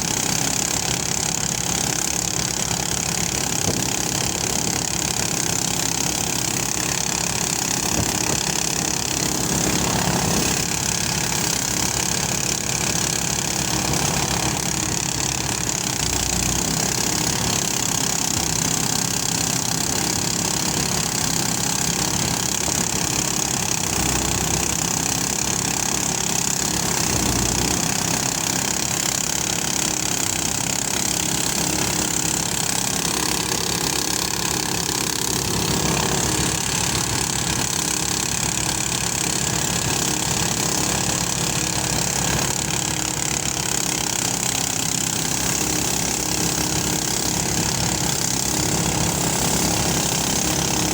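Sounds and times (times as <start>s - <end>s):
threshing machine engine drone: 0.0s - 50.9s.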